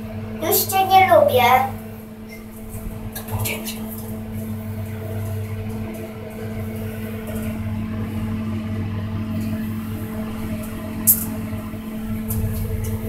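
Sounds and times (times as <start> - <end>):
elevator drive humming: 0.0 - 13.0.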